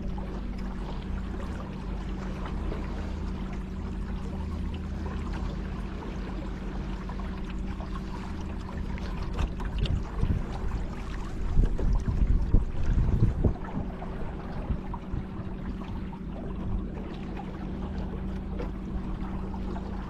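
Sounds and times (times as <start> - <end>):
water splashing along hull: 0.0 - 20.0.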